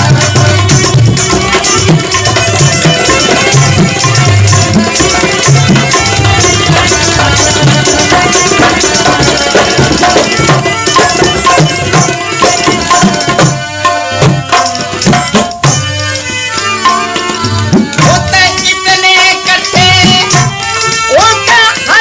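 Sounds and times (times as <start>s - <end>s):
steady melody instrument: 0.0s - 22.0s
tabla playing: 0.0s - 22.0s.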